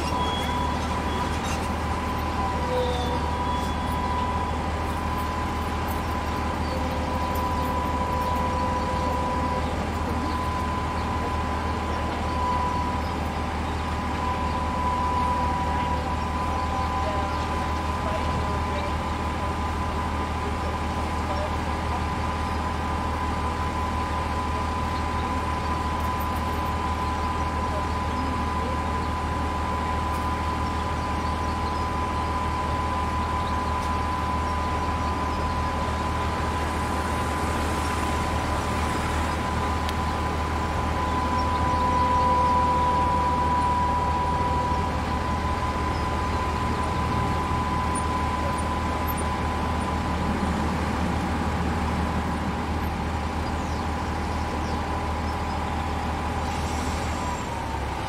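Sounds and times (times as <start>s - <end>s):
diesel engines running under load: 0.0s - 58.0s
steady whine: 0.0s - 58.0s.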